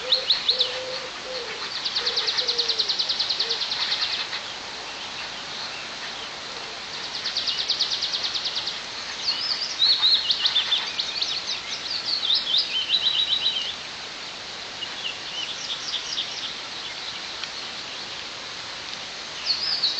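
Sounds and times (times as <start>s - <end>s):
small songbirds singing: 0.0s - 18.4s, 19.2s - 19.9s
light rain hiss: 0.0s - 19.9s.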